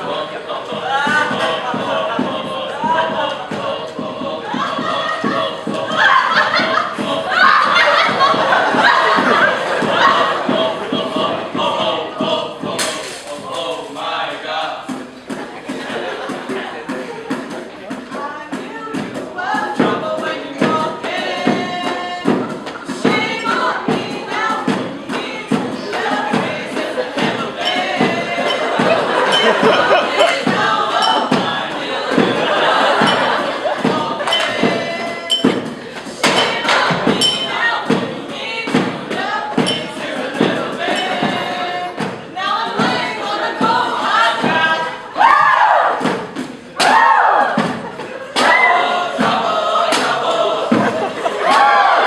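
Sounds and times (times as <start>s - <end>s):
people singing: 0.0s - 52.0s
percussion beat: 0.0s - 52.0s.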